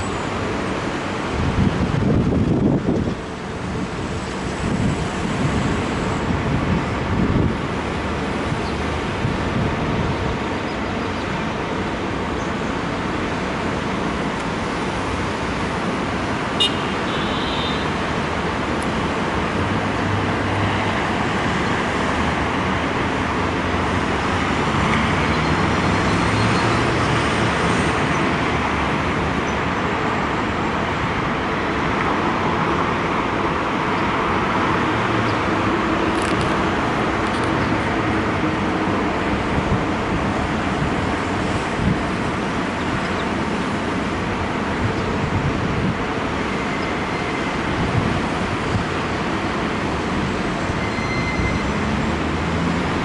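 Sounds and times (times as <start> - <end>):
road traffic passing below: 0.0 - 53.0.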